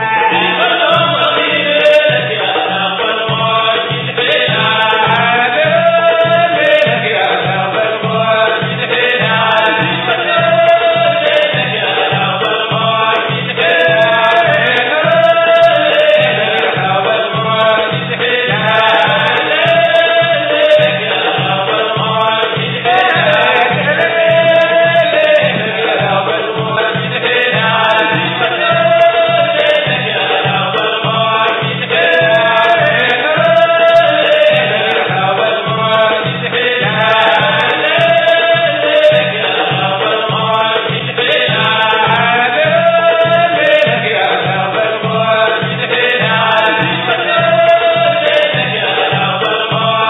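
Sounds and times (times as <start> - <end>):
low drumbeat: 0.0 - 50.0
men singing in unison: 0.0 - 50.0.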